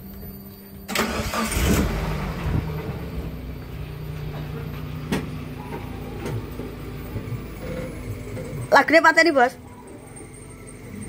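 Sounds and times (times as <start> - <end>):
truck engine starting and idling: 0.8 - 11.0.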